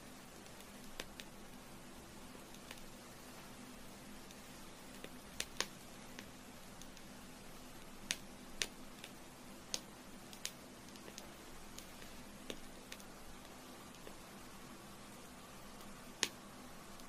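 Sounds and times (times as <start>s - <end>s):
candle wick crackling and popping: 0.0s - 17.0s
faint steady hiss: 0.0s - 17.0s.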